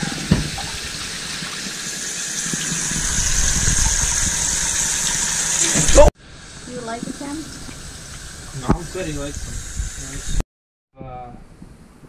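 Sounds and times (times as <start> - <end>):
shower spraying into bathtub: 0.0 - 10.4.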